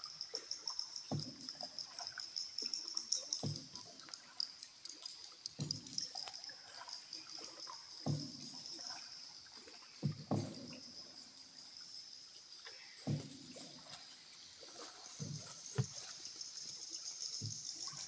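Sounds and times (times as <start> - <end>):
paddle splashing in water: 0.0 - 11.7, 12.5 - 18.0.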